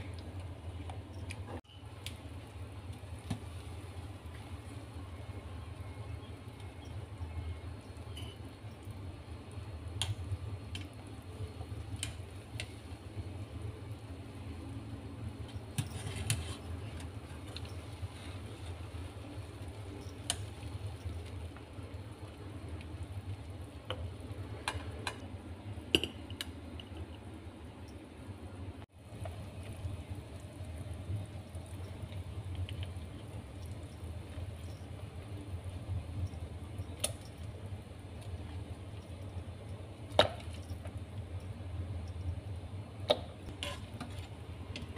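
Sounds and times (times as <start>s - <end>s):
water boiling in pot: 0.0s - 44.9s.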